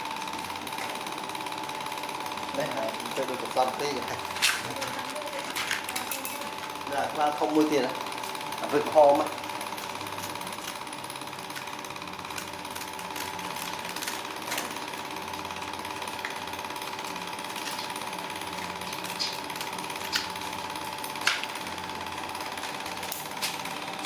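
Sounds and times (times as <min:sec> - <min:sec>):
power tool hammering: 0:00.0 - 0:24.0.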